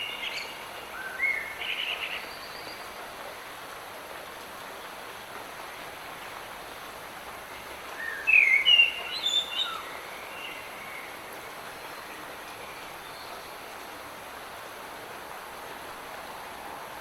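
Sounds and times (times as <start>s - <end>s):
light rain hiss: 0.0s - 17.0s.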